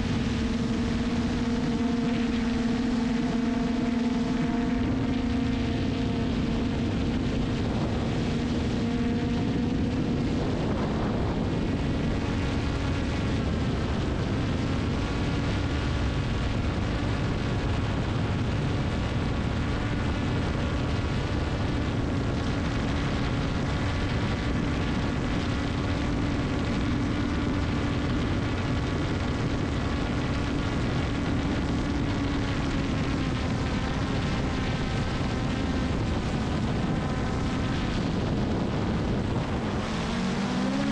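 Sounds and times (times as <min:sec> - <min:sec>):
drone motors humming: 0:00.0 - 0:40.9.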